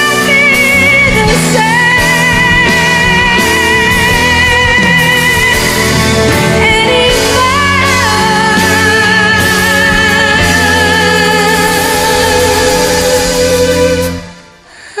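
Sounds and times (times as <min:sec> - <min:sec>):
full band backing: 0:00.0 - 0:15.0.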